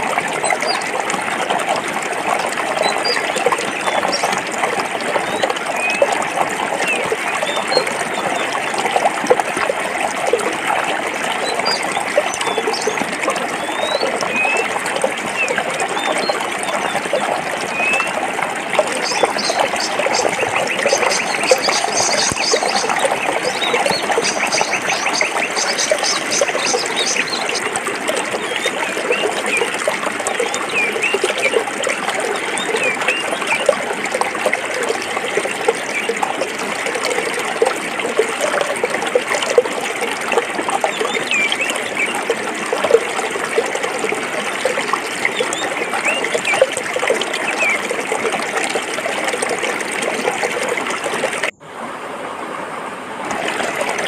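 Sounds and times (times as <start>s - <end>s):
stream water splashing over rocks: 0.0s - 54.0s.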